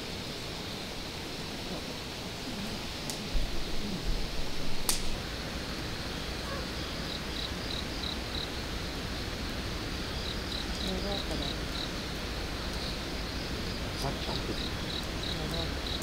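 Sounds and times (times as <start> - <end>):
cricket chirping: 0.0 - 16.0
steady background hiss: 0.0 - 16.0.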